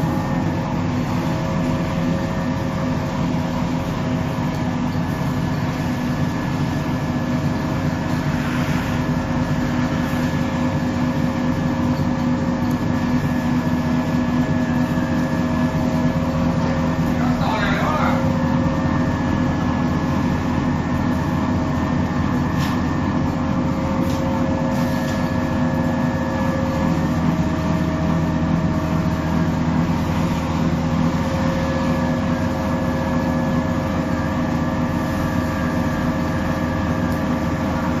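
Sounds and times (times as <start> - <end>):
oil press machine drone: 0.0 - 38.0.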